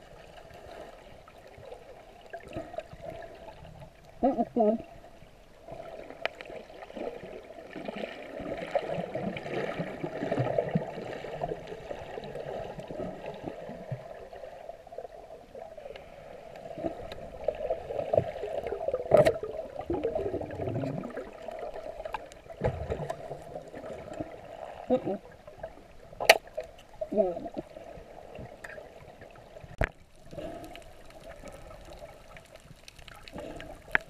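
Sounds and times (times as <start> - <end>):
muffled water sloshing and gurgling: 0.0 - 34.0.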